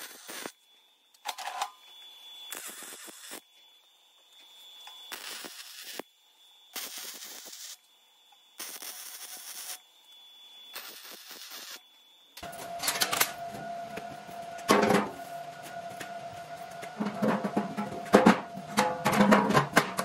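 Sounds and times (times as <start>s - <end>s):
arc welding crackle: 0.0s - 17.1s.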